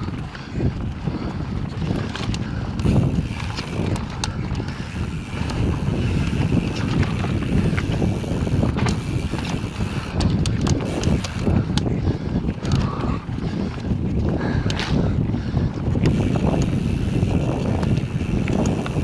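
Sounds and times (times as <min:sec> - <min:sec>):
bike clicks and rattles: 0:00.0 - 0:19.0
bike tyres rumbling on dirt: 0:00.0 - 0:19.0
wind buffeting microphone: 0:00.0 - 0:19.0.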